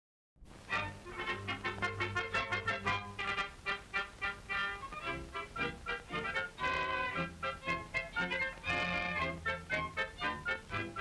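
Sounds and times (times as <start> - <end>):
lively orchestral music with brass: 0.7 - 11.0.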